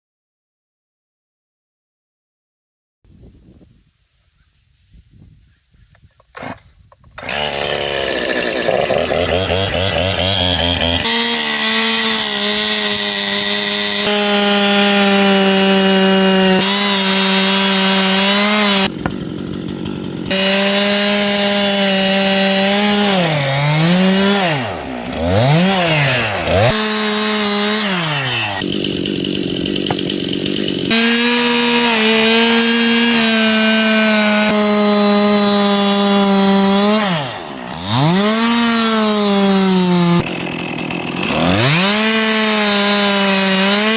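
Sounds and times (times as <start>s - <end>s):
chainsaw carving wood: 6.3s - 43.9s.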